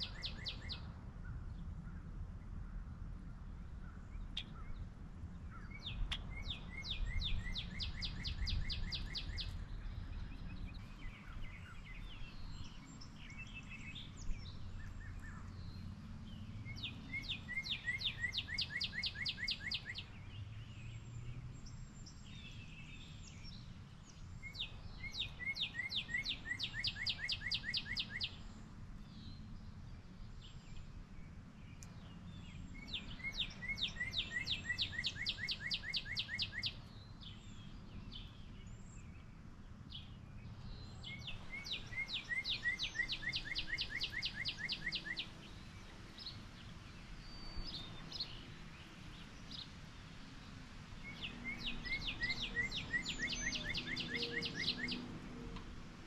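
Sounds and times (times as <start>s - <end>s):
songbird singing sharp notes: 0.0s - 1.4s, 3.8s - 56.0s.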